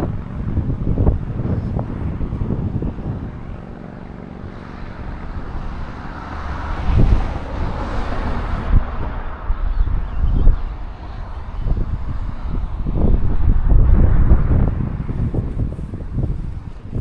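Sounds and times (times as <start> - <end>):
car engine hum: 0.0 - 17.0
road and wind noise: 0.0 - 17.0.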